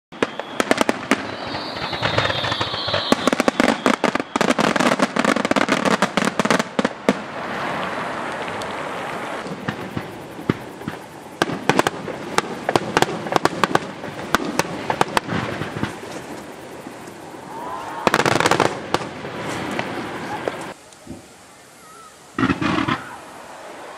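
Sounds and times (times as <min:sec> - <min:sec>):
fireworks cracking and crackling: 0:00.1 - 0:21.4, 0:22.3 - 0:23.2
high firework whistle: 0:00.1 - 0:23.9.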